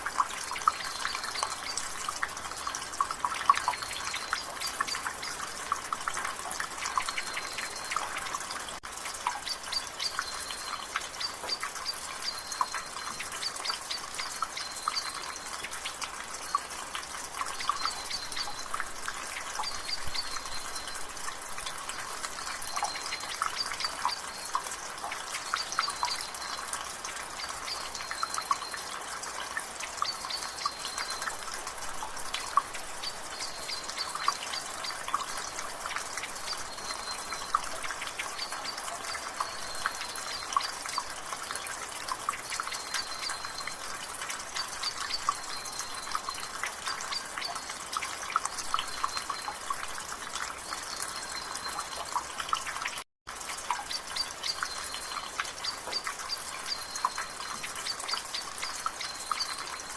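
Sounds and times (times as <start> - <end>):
water dripping from gutter: 0.0 - 59.9.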